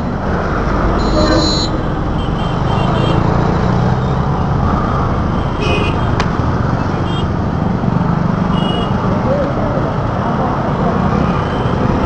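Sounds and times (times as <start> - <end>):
road traffic engines and tyres: 0.0 - 12.0.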